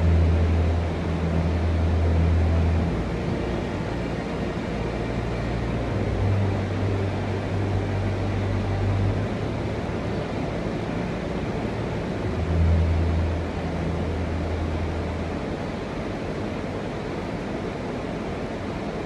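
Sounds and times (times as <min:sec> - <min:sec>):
low hum: 0:00.0 - 0:19.0
rushing mechanical noise: 0:00.0 - 0:19.0.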